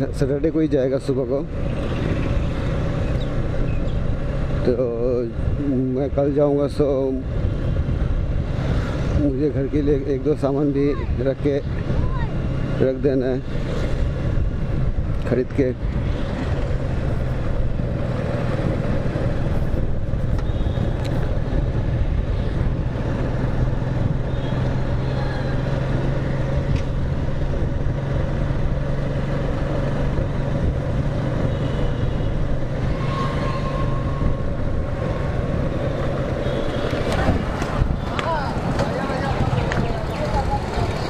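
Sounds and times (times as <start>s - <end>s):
road noise: 0.0s - 41.0s.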